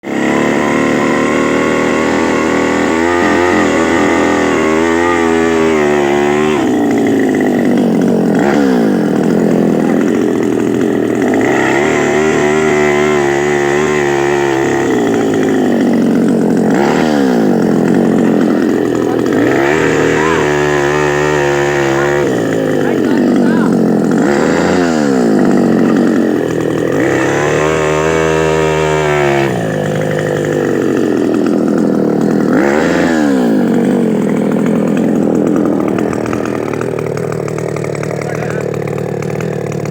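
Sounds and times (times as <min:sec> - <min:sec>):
two-stroke auger engine running: 0:00.0 - 0:39.9.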